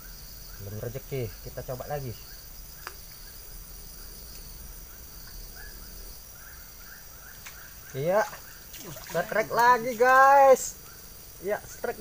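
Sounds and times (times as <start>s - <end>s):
faint chirping call: 0.0s - 12.0s
high-pitched insect chorus: 0.0s - 12.0s.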